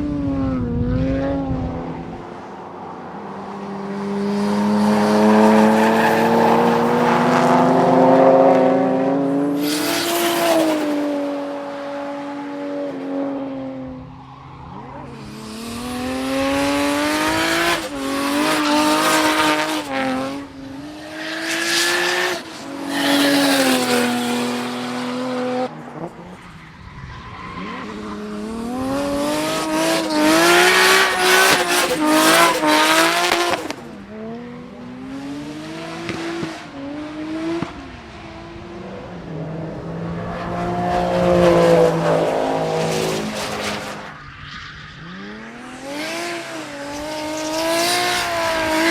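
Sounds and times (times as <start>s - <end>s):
race car engines accelerating: 0.0s - 48.9s.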